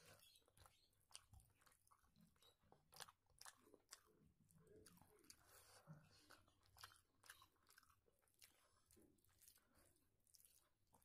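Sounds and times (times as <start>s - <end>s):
fingers squishing wet rice: 0.0s - 11.0s
quiet chewing: 0.0s - 11.0s.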